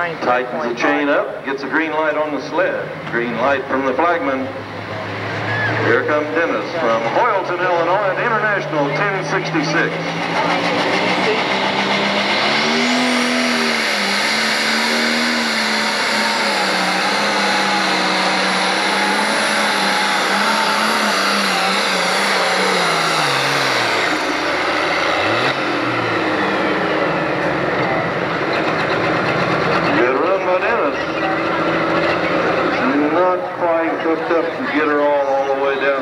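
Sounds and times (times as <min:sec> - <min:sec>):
diesel tractor engine under load: 0:00.0 - 0:36.0.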